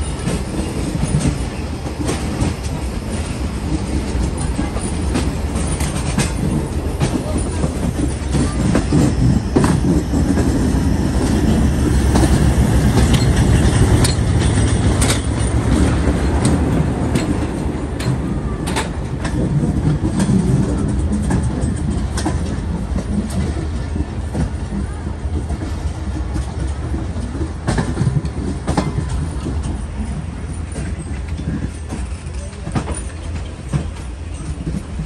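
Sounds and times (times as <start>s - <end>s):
train rumbling on track: 0.0s - 35.0s
wheels clicking and knocking: 0.0s - 35.0s.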